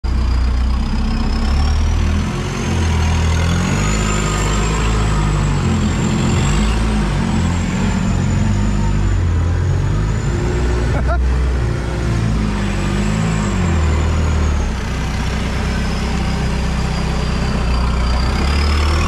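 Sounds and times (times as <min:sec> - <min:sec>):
engine low uneven drone: 0:00.0 - 0:19.0
high-pitched whine: 0:00.1 - 0:19.0.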